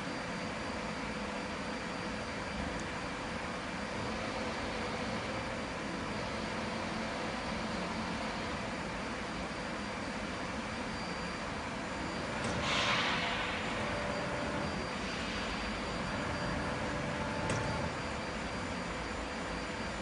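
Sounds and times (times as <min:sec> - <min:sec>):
factory machinery drone: 0:00.0 - 0:20.0.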